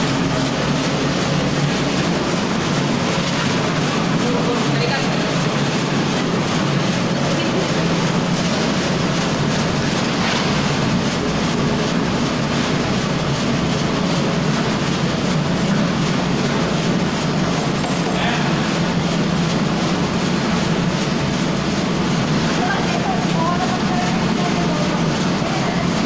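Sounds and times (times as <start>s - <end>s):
machine humming and clattering: 0.0s - 26.0s.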